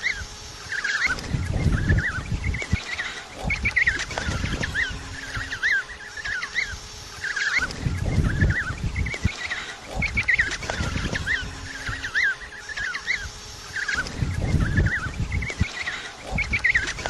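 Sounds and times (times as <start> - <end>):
penguins chirping calls: 0.0 - 17.0.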